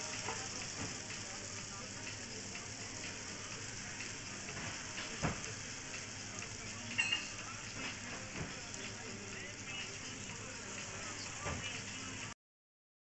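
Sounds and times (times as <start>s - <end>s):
batter sizzling on griddle: 0.0s - 12.4s.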